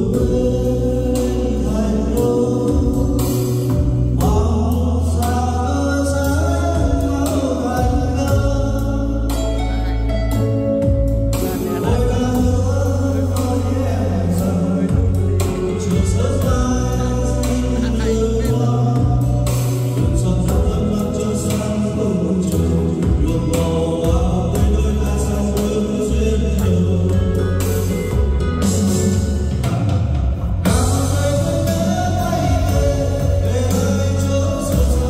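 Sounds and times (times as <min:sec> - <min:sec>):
person singing: 0:00.0 - 0:29.9, 0:30.5 - 0:35.0
deep bass line: 0:00.0 - 0:35.0.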